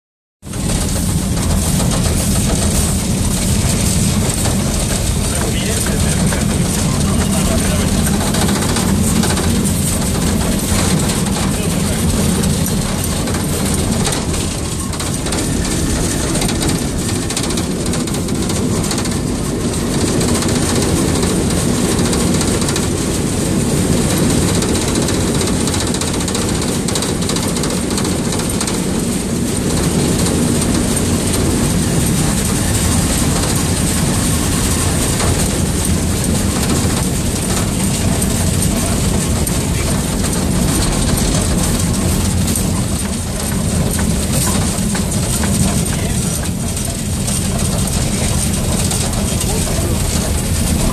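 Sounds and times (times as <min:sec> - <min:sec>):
locomotive wheels and machinery rumbling: 0:00.4 - 0:50.9.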